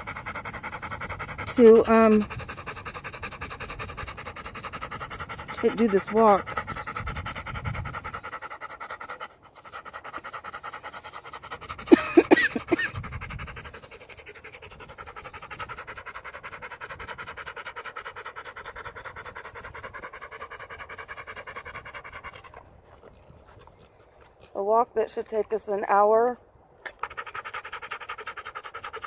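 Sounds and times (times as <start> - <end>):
dog panting rapidly: 0.0 - 26.1, 26.9 - 29.0.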